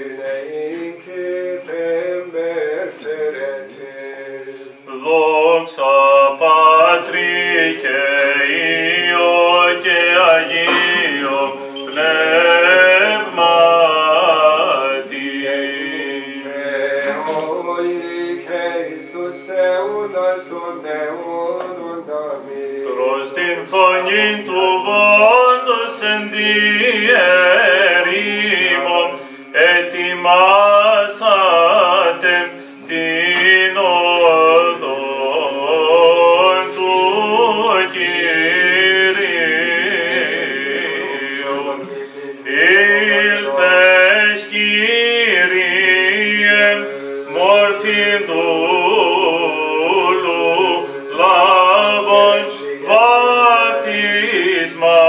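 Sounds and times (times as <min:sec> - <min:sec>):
low held vocal drone: 0:00.0 - 0:55.0
man singing a chant: 0:00.0 - 0:55.0.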